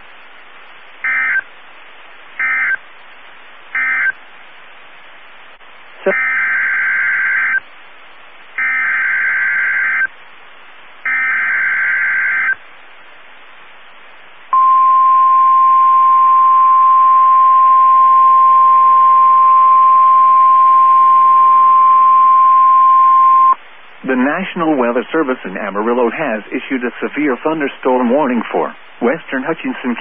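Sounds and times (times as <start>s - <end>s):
radio hiss: 0.0s - 16.4s, 21.3s - 30.0s.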